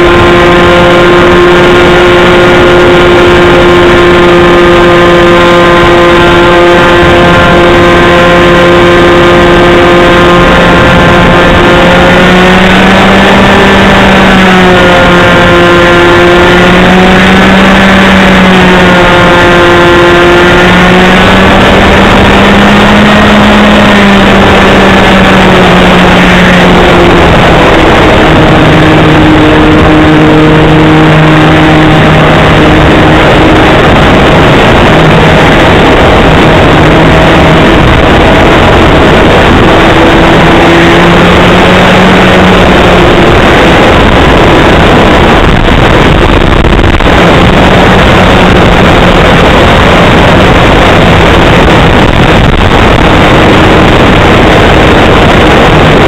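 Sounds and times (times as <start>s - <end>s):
model airplane engine running: 0.0s - 56.0s.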